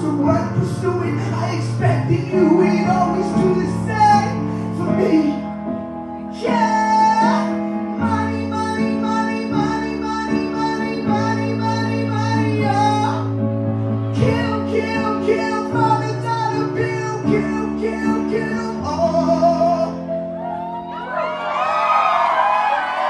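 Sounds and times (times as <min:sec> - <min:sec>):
bass line: 0:00.0 - 0:21.3.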